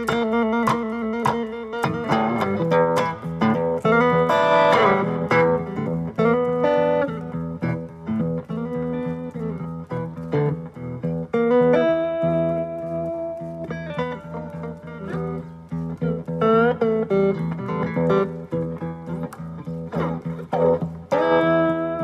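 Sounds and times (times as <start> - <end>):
plucked guitar notes: 0.0 - 22.0.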